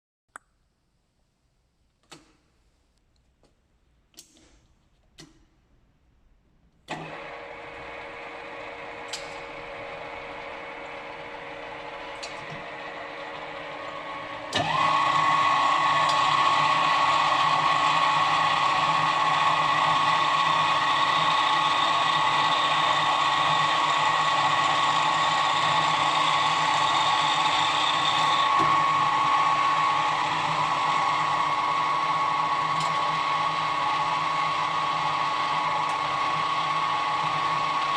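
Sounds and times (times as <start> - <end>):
drill motor running with whine: 7.0 - 37.9.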